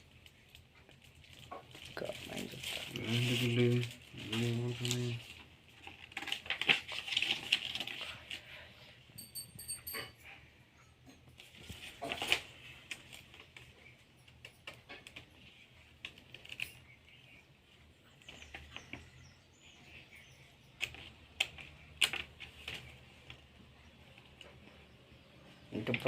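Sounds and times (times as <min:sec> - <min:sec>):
clicks and knocks of objects handled: 0:00.0 - 0:08.6, 0:11.0 - 0:19.4, 0:20.6 - 0:25.1.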